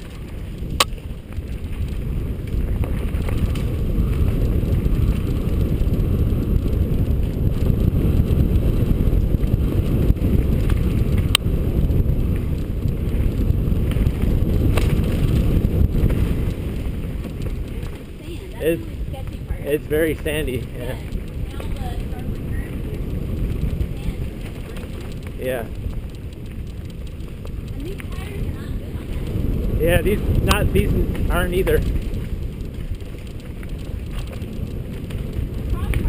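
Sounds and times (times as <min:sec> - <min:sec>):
bike tyres rumbling on dirt trail: 0:00.0 - 0:36.0
wind on microphone: 0:00.0 - 0:36.0.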